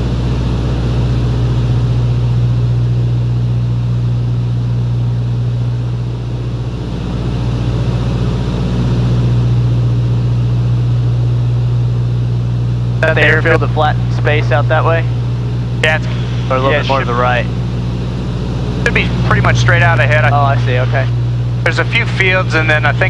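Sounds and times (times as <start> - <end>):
propeller aircraft engines droning: 0.0 - 23.0.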